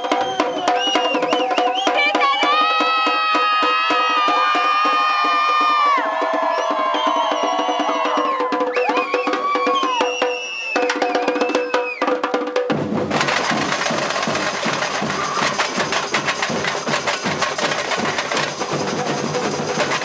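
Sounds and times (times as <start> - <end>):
percussion band drumming: 0.0 - 20.0.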